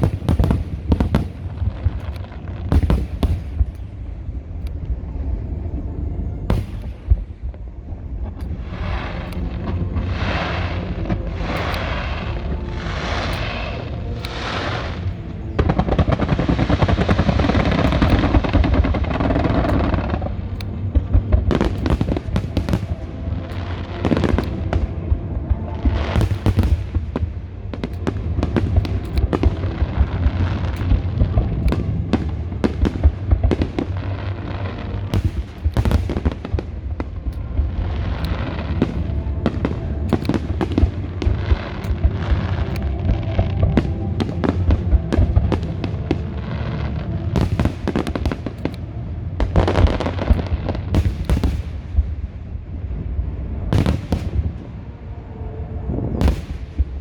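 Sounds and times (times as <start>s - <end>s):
fireworks bangs: 0.0s - 4.0s, 6.5s - 7.4s, 8.4s - 48.8s, 49.4s - 52.2s, 53.7s - 54.7s
fireworks crackling: 0.0s - 55.0s, 56.1s - 57.0s.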